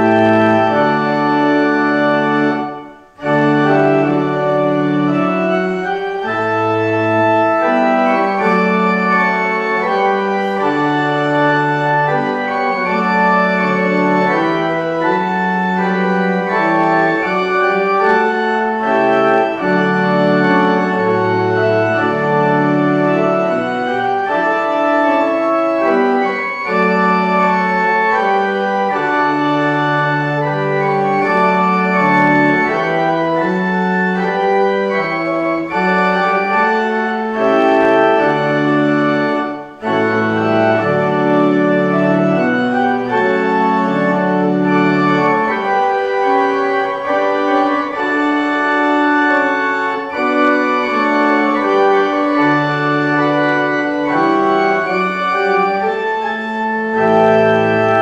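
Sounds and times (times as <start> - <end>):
church organ playing chords: 0.0 - 58.0.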